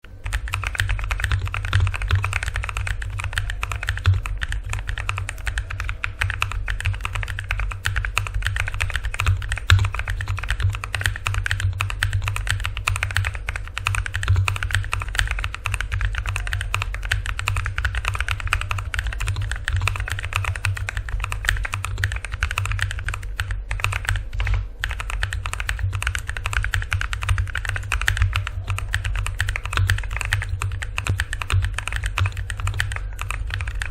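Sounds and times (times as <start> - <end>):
mechanical keyboard typing: 0.1 - 33.9.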